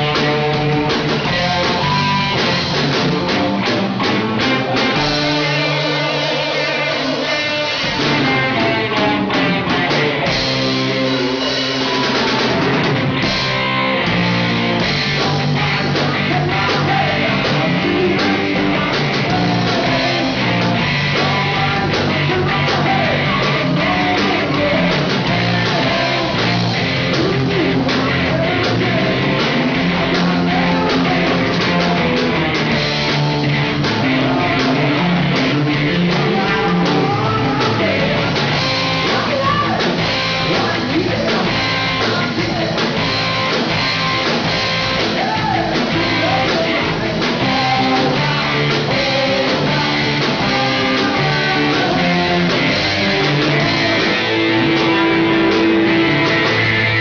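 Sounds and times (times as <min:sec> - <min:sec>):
person singing: 0:00.0 - 0:12.8, 0:14.8 - 0:57.0
rock band playing: 0:00.0 - 0:57.0.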